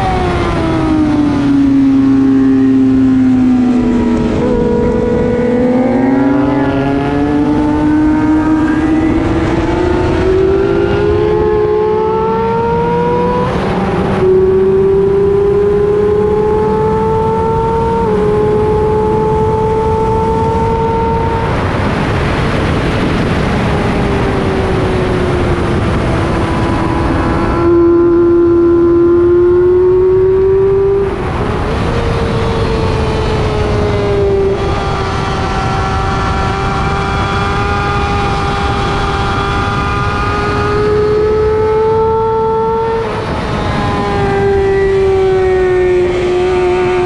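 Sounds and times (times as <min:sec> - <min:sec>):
race motorcycle engine accelerating: 0:00.0 - 0:47.0
rush of noise: 0:00.0 - 0:47.0.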